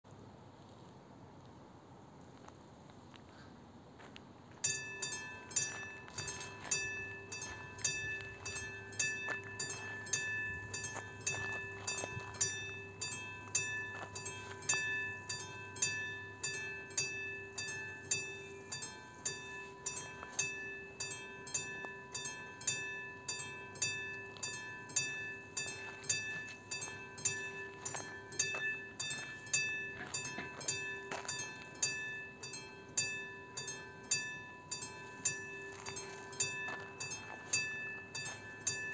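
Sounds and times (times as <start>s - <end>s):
crossing warning bell ringing: 4.5s - 38.9s.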